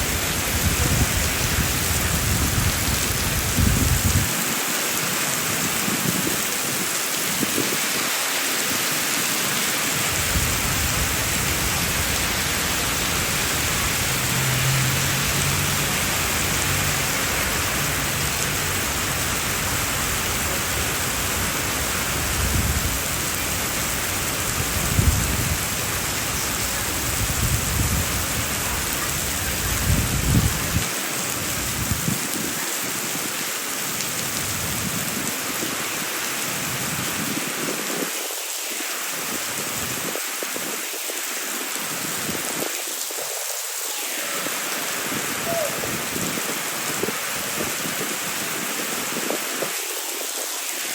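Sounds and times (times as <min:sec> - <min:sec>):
heavy rain splashing on street: 0:00.0 - 0:50.9.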